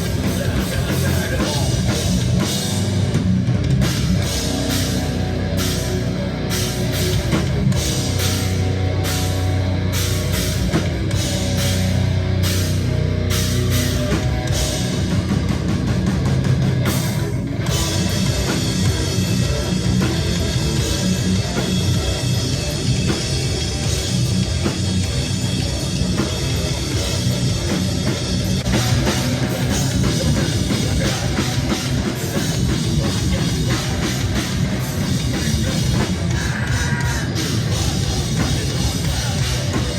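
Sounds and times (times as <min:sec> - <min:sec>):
heavy rock band playing: 0:00.0 - 0:39.9.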